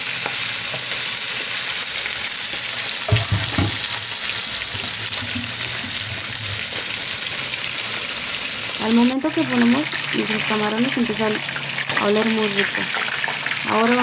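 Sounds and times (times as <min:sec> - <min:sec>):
shrimp sizzling in hot oil: 0:00.0 - 0:14.0.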